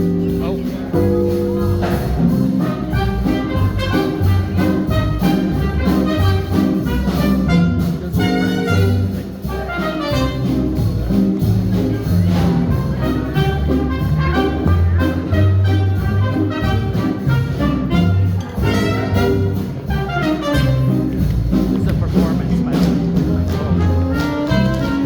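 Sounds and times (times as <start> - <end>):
swing jazz band playing: 0.0 - 25.0.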